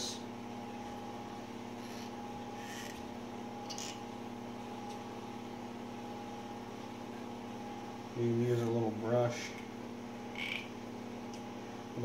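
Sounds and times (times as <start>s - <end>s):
steady room hum: 0.0s - 12.0s.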